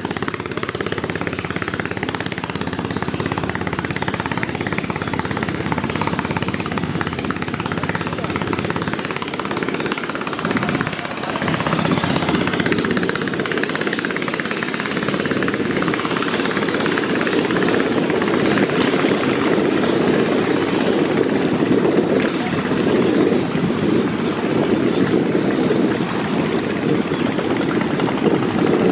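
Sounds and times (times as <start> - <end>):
boat engine throbbing: 0.0 - 28.9
continuous rushing noise: 0.0 - 28.9.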